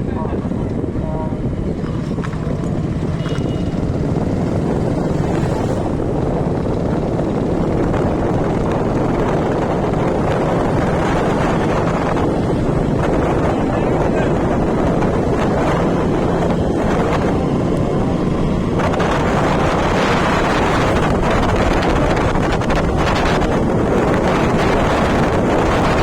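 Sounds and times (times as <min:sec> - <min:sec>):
road vehicle moving: 0:00.0 - 0:26.0
wind buffeting microphone: 0:00.0 - 0:26.0.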